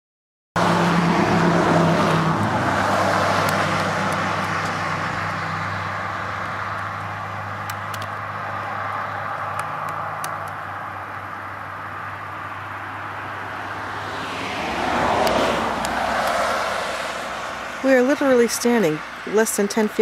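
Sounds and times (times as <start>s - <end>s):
road vehicle passing: 0.6s - 20.0s.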